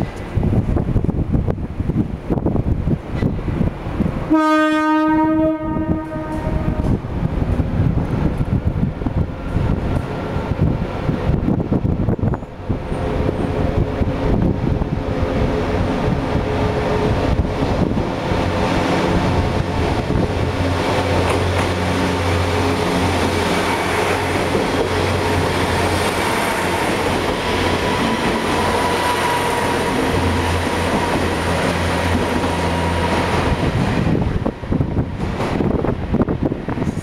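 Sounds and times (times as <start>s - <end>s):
train wheels rolling on rails: 0.0s - 4.3s, 5.7s - 37.0s
diesel railcar engine under power: 0.0s - 37.0s.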